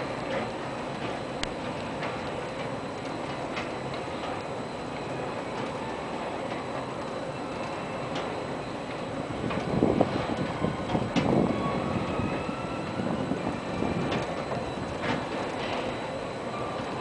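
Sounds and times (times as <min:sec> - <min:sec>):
ride cars rattling on rails: 0:00.0 - 0:17.0.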